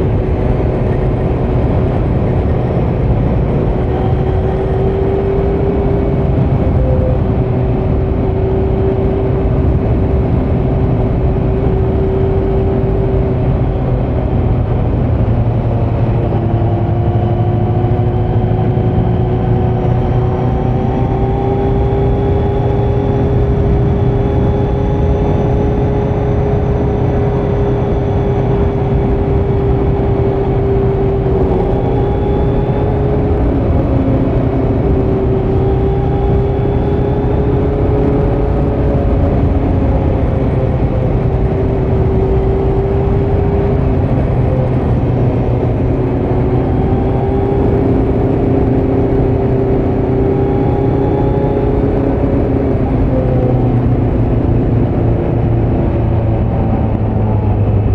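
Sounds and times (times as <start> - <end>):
motorcycle engine cruising: 0.0 - 57.9
wind and road rumble: 0.0 - 57.9.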